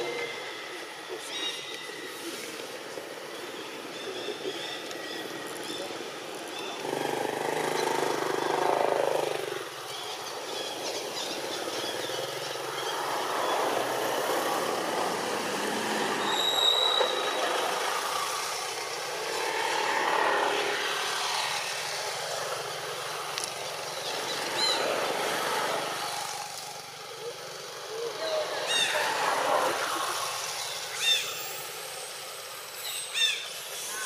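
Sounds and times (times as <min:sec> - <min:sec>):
steady outdoor hiss: 0:00.0 - 0:34.0.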